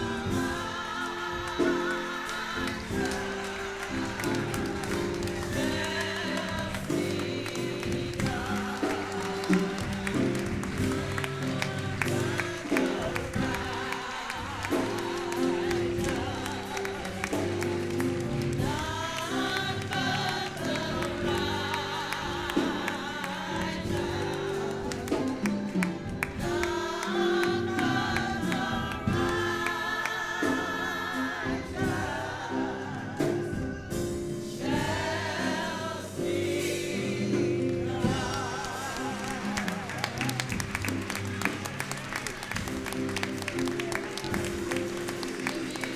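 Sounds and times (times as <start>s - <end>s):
gospel choir singing: 0.0s - 45.9s.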